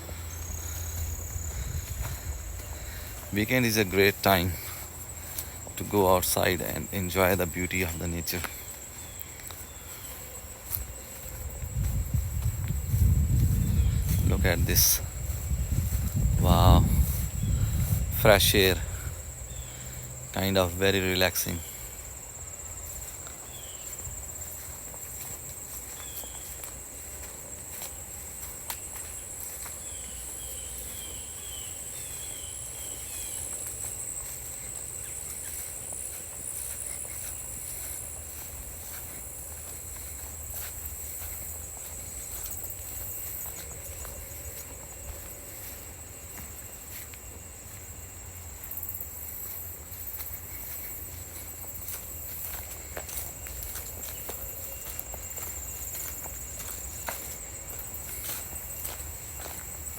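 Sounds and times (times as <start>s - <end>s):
footsteps on forest floor: 0.0s - 59.9s
insects droning: 0.0s - 59.9s.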